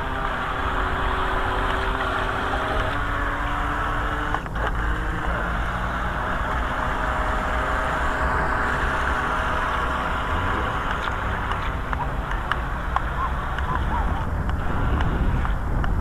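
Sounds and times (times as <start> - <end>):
electric motor buzzing hum: 0.0 - 16.0.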